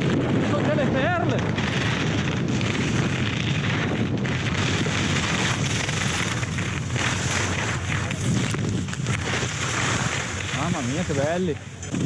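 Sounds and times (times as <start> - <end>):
ski edges carving on snow: 0.0 - 12.0
wind buffeting microphone: 0.0 - 12.0.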